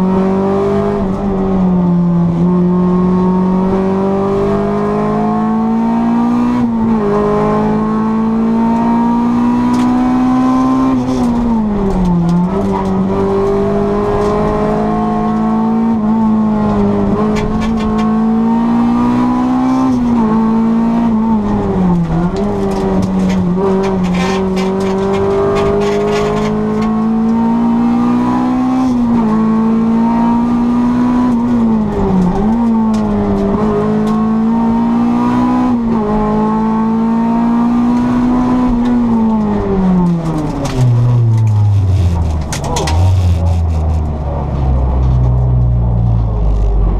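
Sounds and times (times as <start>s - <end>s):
car engine at high revs: 0.0s - 46.9s.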